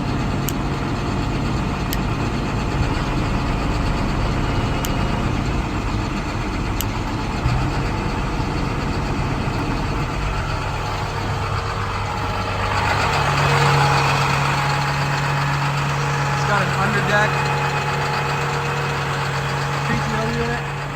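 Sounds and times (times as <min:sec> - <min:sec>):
diesel engine idling: 0:00.0 - 0:20.9
steady low hum: 0:00.0 - 0:20.9.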